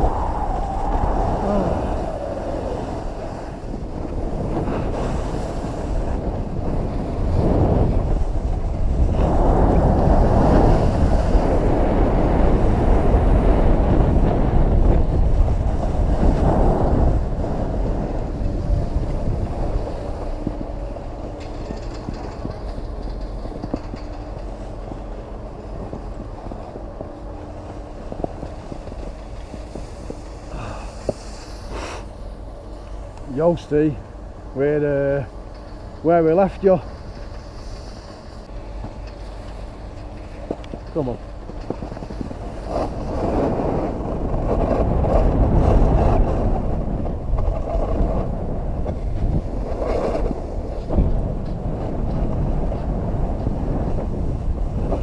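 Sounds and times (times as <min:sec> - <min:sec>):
skis scraping over snow: 0:00.0 - 0:55.0
wind rushing past microphone: 0:00.0 - 0:55.0.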